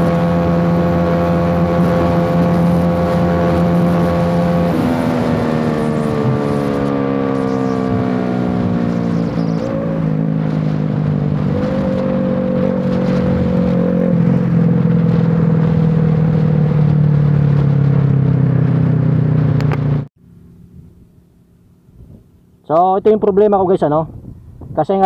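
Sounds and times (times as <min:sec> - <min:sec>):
motorcycle engine running hard: 0:00.0 - 0:22.2.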